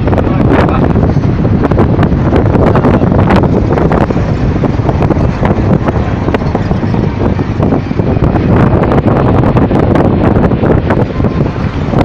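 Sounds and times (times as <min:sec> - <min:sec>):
engine and road noise: 0:00.0 - 0:12.0
wind rushing over microphone: 0:00.0 - 0:12.0.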